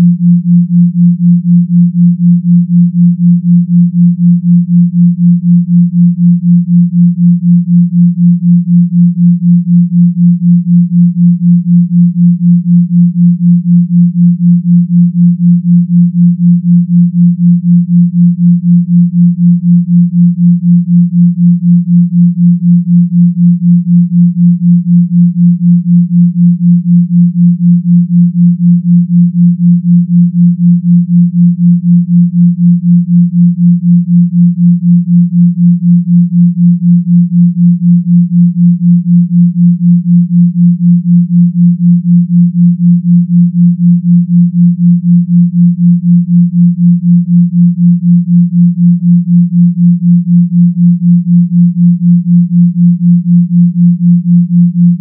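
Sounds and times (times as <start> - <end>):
pulsing low sine hum: 0.0 - 55.0.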